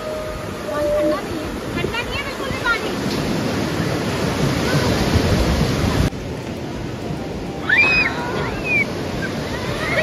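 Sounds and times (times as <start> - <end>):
sea waves washing ashore: 0.0 - 10.0.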